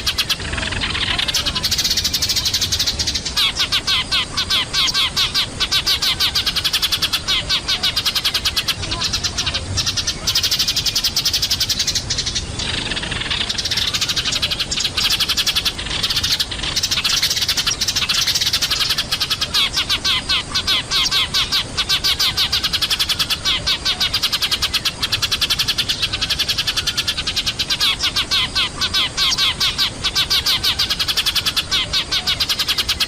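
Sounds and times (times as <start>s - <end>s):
sparrows chirping: 0.0s - 33.0s.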